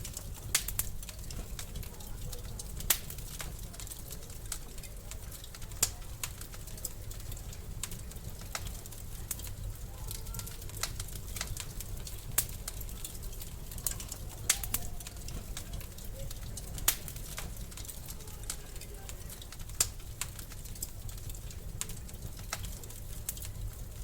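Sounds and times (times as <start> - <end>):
low rumble of fire: 0.0 - 24.0
wood fire crackling: 0.0 - 24.0.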